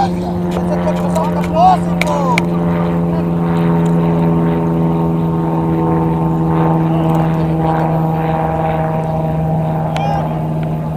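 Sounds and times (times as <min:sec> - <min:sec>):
steady motor drone: 0:00.0 - 0:10.9.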